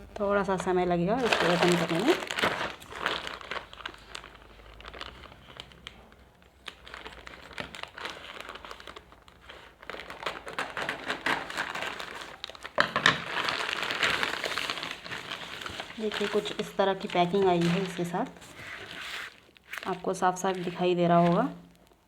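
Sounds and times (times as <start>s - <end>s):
packaging crinkling and rustling: 0.0s - 22.0s
packaging tearing: 1.1s - 22.0s.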